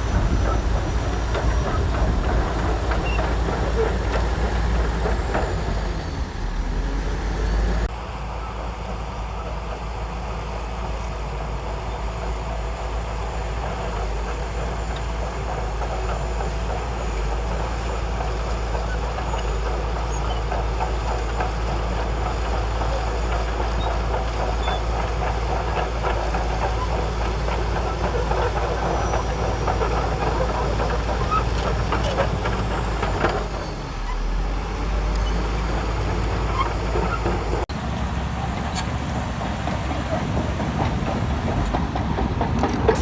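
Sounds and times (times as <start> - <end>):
tracks clattering and rattling: 0.0 - 6.1, 13.1 - 34.2, 35.3 - 43.0
bulldozer engine drone: 0.0 - 43.0.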